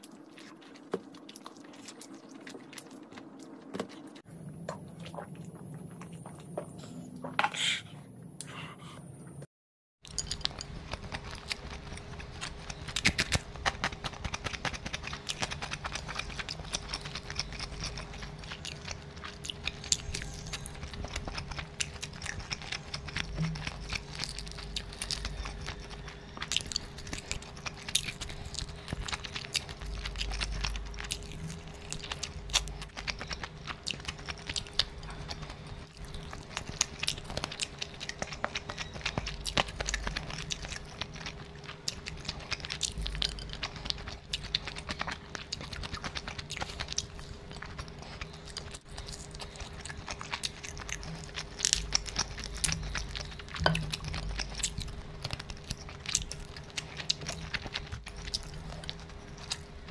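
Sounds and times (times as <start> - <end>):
person chewing food: 0.0 - 7.4, 10.0 - 59.9
faint steady hum: 10.1 - 59.9.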